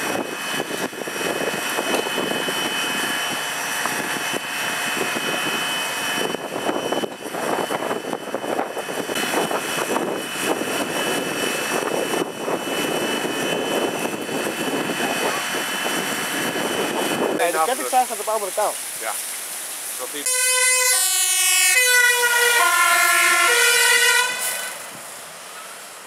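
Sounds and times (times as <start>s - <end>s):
water pump droning with whine: 0.0s - 26.0s.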